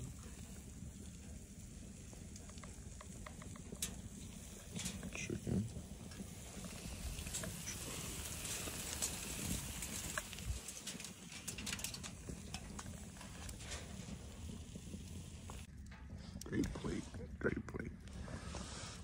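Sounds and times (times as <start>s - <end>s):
chicken sizzling on a grill: 0.0s - 15.7s
low uneven rumble: 0.0s - 19.0s
sharp crackles: 0.0s - 19.0s.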